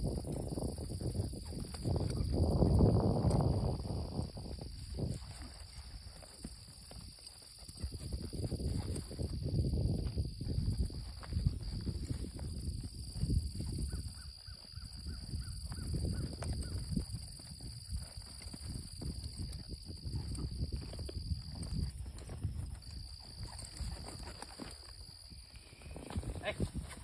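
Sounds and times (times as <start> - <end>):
high insect drone: 0.0 - 27.0.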